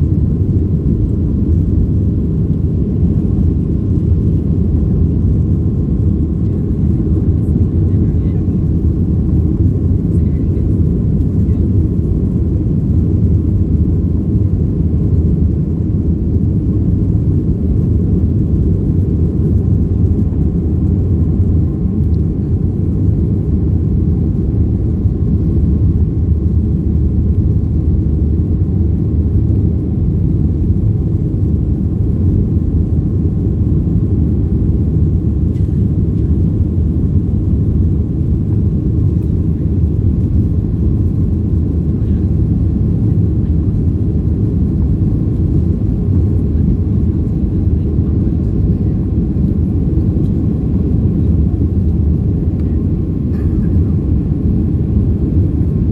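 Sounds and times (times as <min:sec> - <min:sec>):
aircraft cabin engine rumble: 0:00.0 - 0:55.9
faint steady hum: 0:00.0 - 0:55.9.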